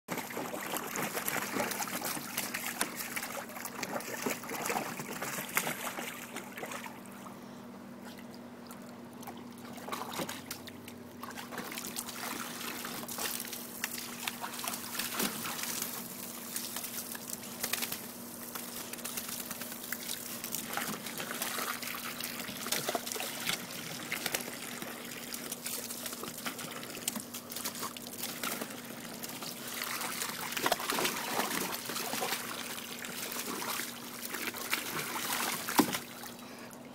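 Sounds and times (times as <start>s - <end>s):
dogs splashing in water: 0.1s - 7.0s, 9.2s - 36.4s
hose water running into pool: 0.1s - 7.0s, 9.6s - 36.4s.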